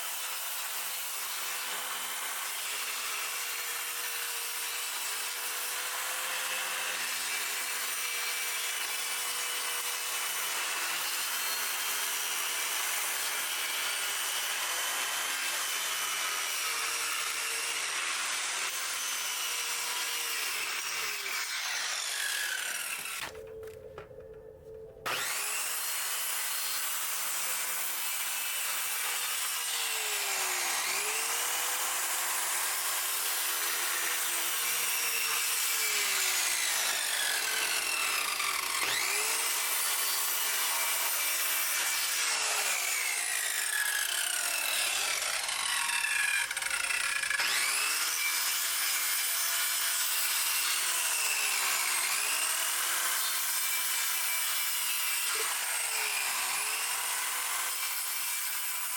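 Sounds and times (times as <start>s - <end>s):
electric power saw cutting wood: 0.0s - 58.9s.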